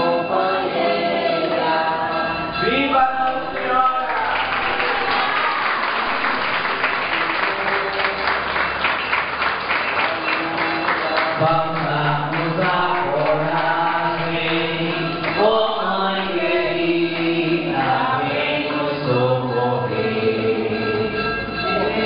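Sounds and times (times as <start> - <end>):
group singing a hymn: 0.0 - 9.1, 10.1 - 22.0.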